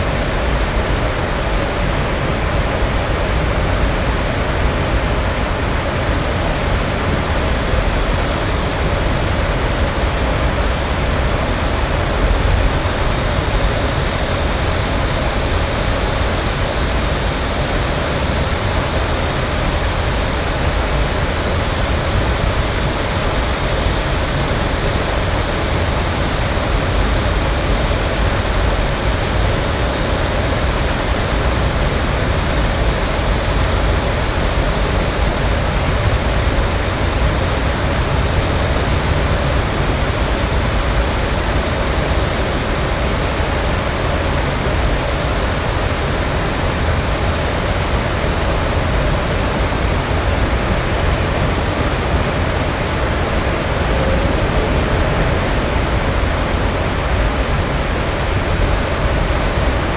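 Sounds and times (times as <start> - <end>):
city traffic roar: 0.0 - 59.9.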